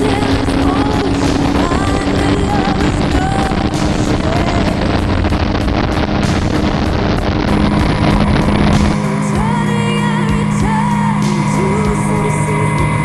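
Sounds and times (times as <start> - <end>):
speedboat engine drone: 0.0 - 13.0
water rushing: 0.0 - 13.0
wind noise: 0.0 - 13.0.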